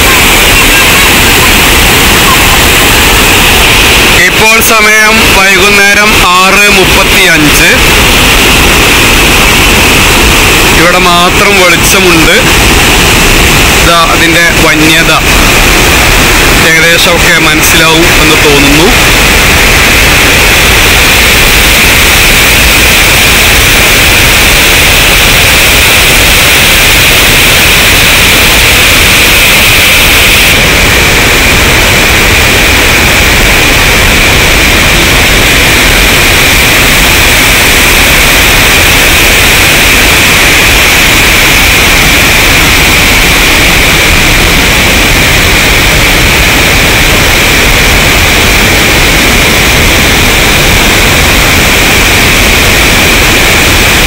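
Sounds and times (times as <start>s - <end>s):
water rushing over a dam: 0.0s - 54.0s.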